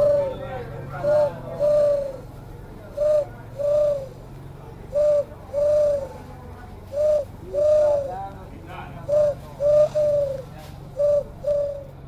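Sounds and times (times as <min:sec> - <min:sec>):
dove cooing: 0:00.0 - 0:12.0
faint low hum: 0:00.0 - 0:12.0.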